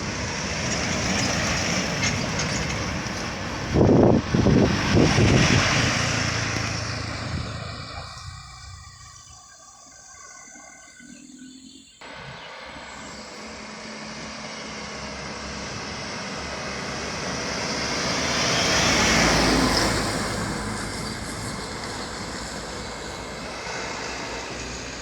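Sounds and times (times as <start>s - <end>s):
heavy truck passing: 0.0s - 9.3s, 12.0s - 25.0s.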